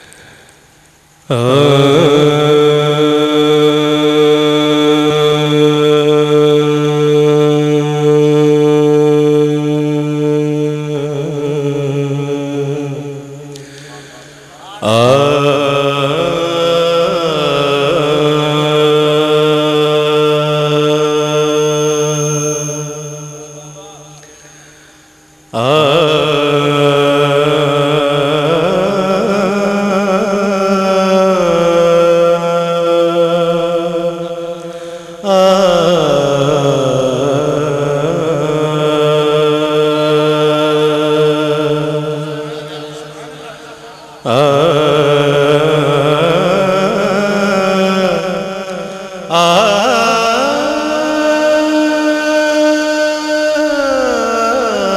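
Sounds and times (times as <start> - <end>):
man singing unaccompanied: 1.2 - 24.6, 25.5 - 54.9.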